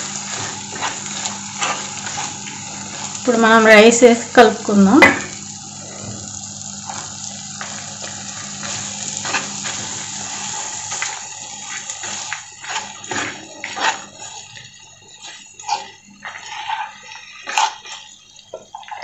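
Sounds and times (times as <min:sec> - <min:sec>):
spatula scraping a pan: 0:00.0 - 0:03.6, 0:06.8 - 0:19.0
frying hiss: 0:00.0 - 0:19.0.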